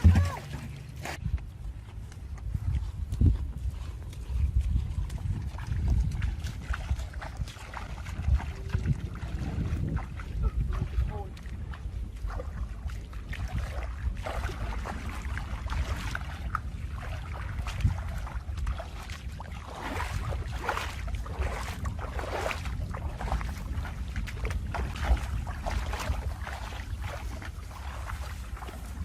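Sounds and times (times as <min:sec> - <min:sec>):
water splashing and sloshing: 0:00.0 - 0:29.0
wind buffeting microphone: 0:00.0 - 0:29.0.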